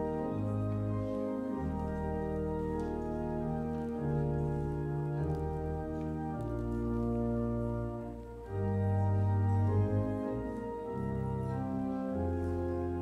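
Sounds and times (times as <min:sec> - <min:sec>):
church organ chords: 0:00.0 - 0:13.0.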